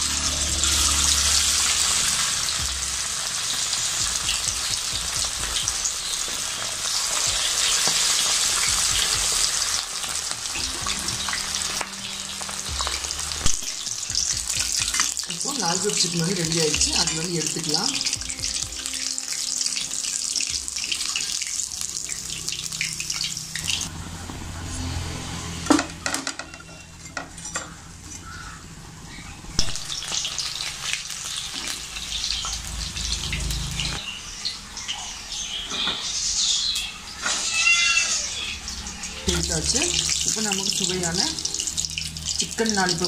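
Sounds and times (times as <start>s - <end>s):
chicken deep-frying in oil: 0.0s - 43.0s.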